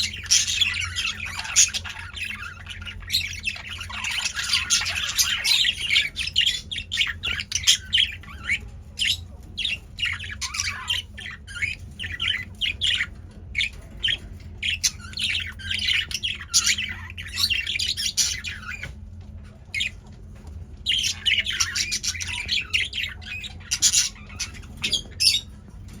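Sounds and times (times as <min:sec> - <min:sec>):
budgerigars chattering and squawking: 0:00.0 - 0:26.0
steady low hum: 0:00.0 - 0:26.0.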